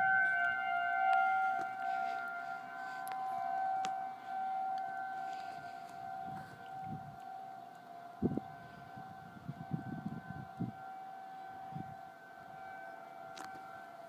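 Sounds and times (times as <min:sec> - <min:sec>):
warning siren steady tone: 0:00.0 - 0:14.0.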